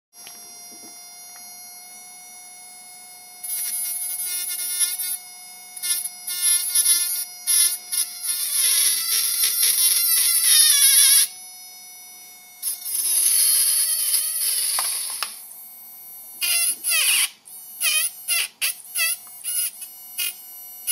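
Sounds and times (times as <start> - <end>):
faint steady whine: 0.2 - 20.9
small electric motors buzzing: 0.2 - 20.9.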